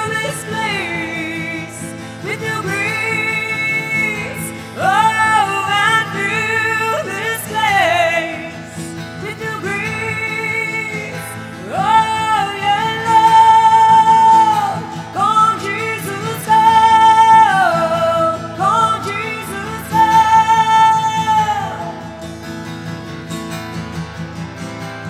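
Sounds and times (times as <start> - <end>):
guitar accompaniment: 0.0 - 25.0.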